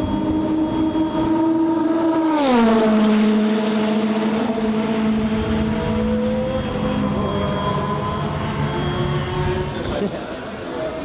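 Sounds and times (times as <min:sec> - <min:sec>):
race car passing at speed: 0:00.0 - 0:11.0.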